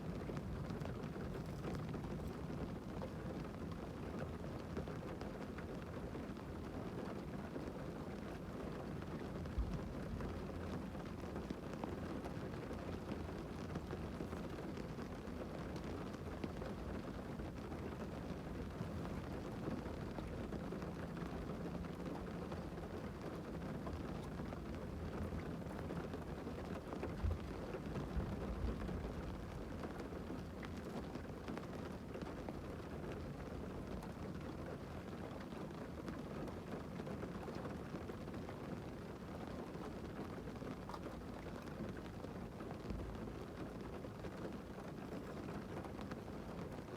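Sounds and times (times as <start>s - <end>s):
rain on a car: 0.0s - 46.9s.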